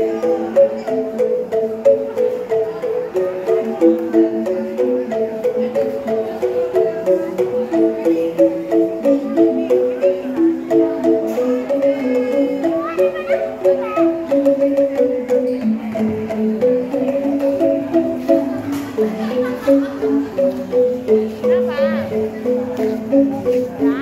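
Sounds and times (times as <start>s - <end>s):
angklung bamboo rattles ensemble: 0.0s - 24.0s.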